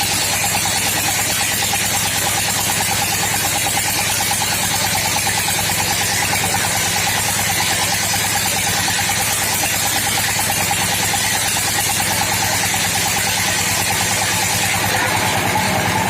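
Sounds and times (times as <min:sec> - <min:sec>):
sawmill engine pulsing: 0:00.0 - 0:16.0
steady machine whine: 0:00.0 - 0:16.0.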